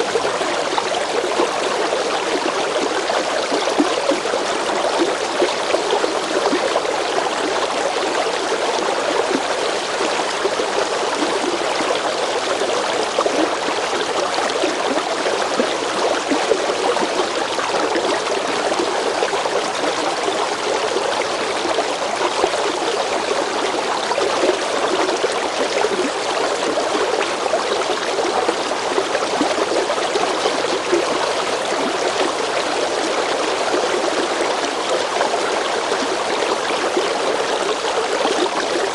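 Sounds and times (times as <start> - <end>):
river water babbling over rocks: 0.0 - 38.9.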